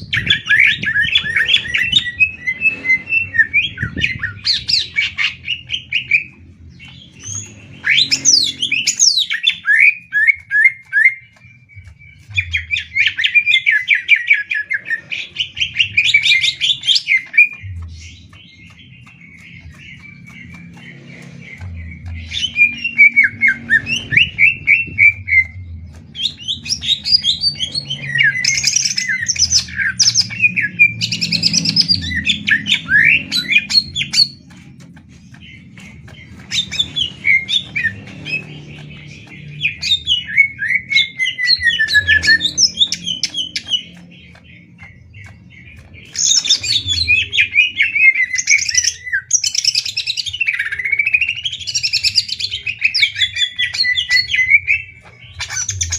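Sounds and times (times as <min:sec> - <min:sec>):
birds singing fast chattering songs: 0:00.0 - 0:55.9.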